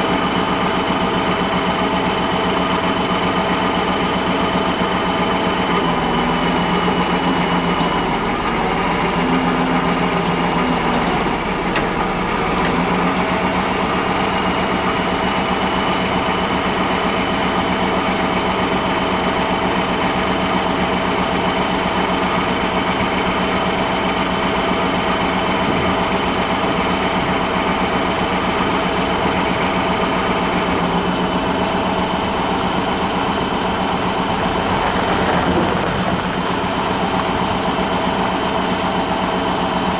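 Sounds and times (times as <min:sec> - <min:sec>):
large engine idling: 0:00.0 - 0:39.9.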